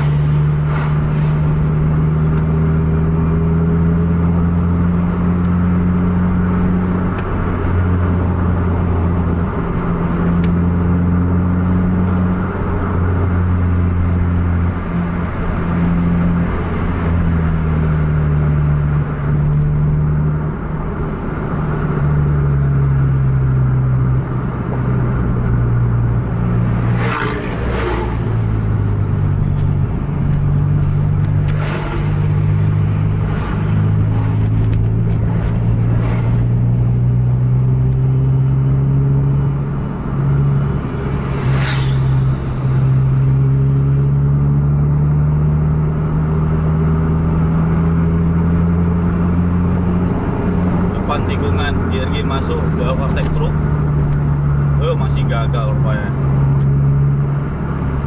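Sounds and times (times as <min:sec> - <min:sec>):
car engine droning under load: 0:00.0 - 0:58.0
tyre and road noise: 0:00.0 - 0:58.0.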